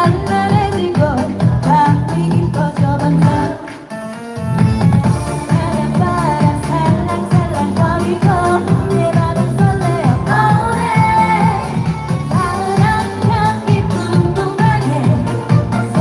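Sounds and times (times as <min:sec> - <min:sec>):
woman singing live: 0:00.0 - 0:03.8, 0:05.2 - 0:16.0
backing track with steady beat: 0:00.0 - 0:16.0.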